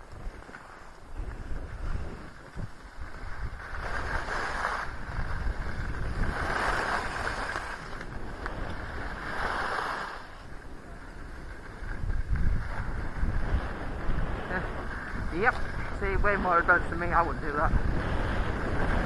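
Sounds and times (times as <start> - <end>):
skis scraping over snow: 0.0 - 19.0
wind rumble on microphone: 0.0 - 19.0.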